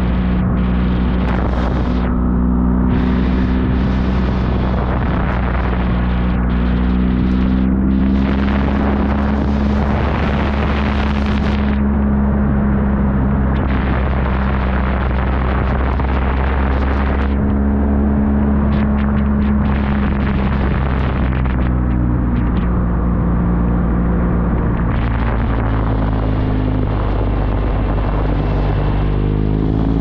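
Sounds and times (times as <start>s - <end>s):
motorcycle engine cruising: 0.0s - 30.0s
wind noise on microphone: 0.0s - 30.0s.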